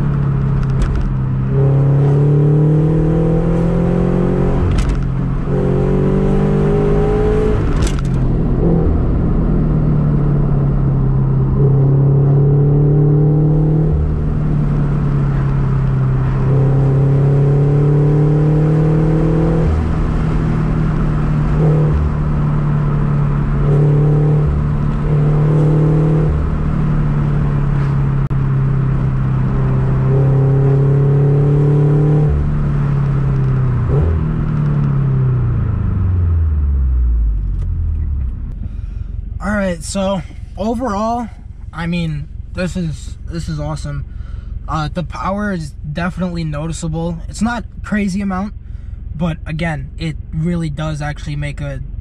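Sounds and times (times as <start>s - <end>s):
car engine drone inside cabin: 0.0s - 52.0s.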